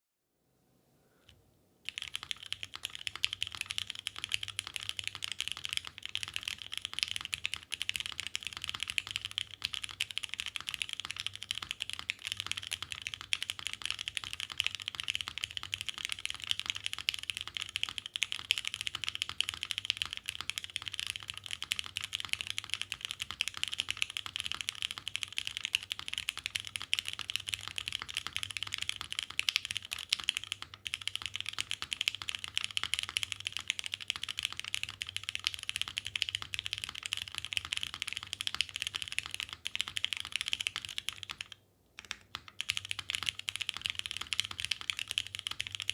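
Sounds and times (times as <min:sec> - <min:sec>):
fast mechanical keyboard typing: 0:01.9 - 0:45.9.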